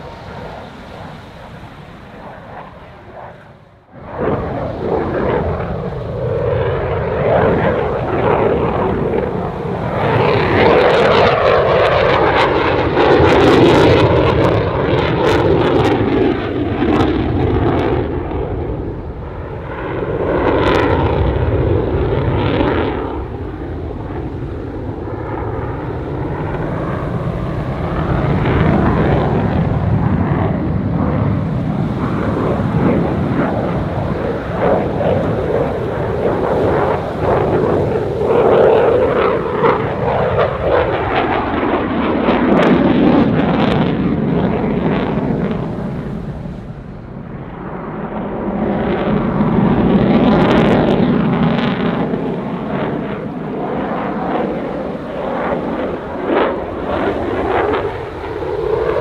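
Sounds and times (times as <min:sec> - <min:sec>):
fighter jet afterburner rumble: 0:00.0 - 0:59.0
jet engine crackle: 0:00.0 - 0:59.0.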